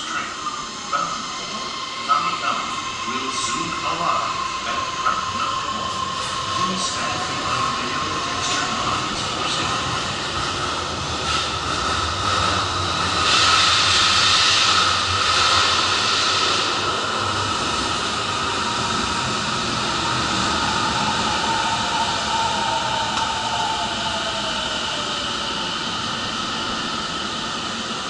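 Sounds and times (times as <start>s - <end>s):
train wheels rushing on rail: 0.0s - 28.0s.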